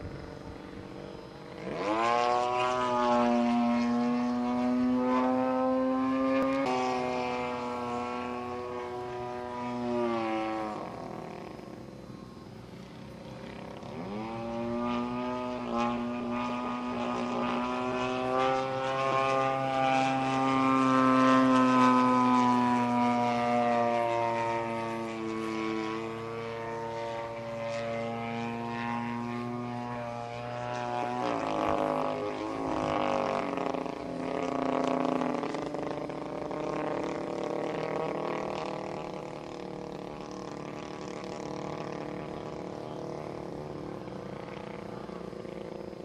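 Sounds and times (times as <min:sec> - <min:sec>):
propeller plane engine overhead: 0:00.0 - 0:46.0.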